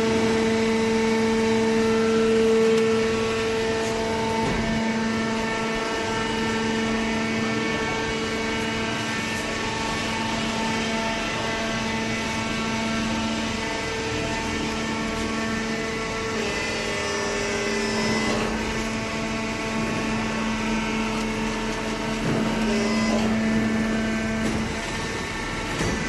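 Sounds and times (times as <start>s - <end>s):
hydraulic baler machine hum: 0.0s - 26.0s.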